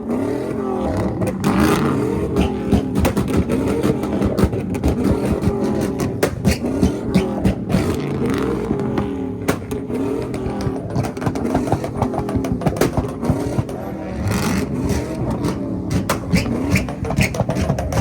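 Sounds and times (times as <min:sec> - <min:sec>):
car engines revving hard: 0:00.0 - 0:18.0
exhaust pops and bangs: 0:01.0 - 0:18.0.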